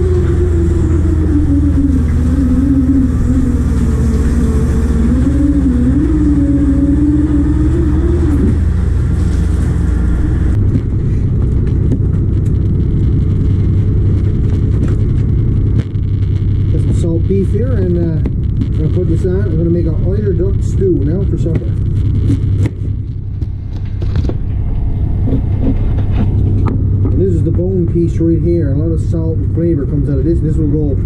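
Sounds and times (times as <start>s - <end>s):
boat engine and machinery running: 0.0s - 31.0s
wavering machine whine: 0.0s - 31.0s.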